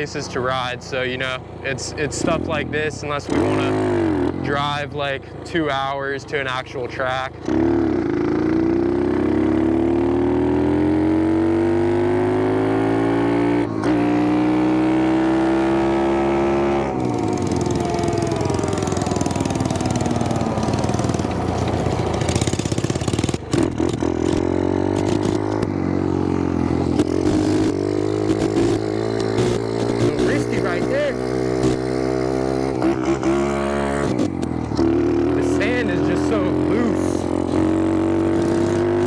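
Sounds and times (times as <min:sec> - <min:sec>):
motorcycle engine pulling hard: 0:01.4 - 0:06.0, 0:06.6 - 0:39.0.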